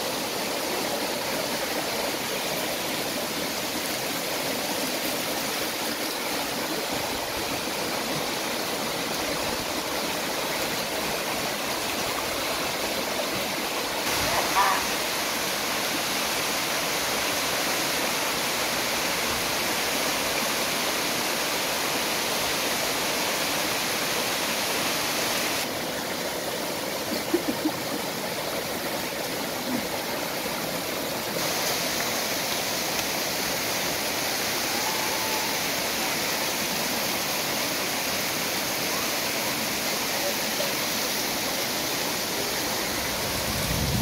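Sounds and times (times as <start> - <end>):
rush of falling water: 0.0 - 44.0.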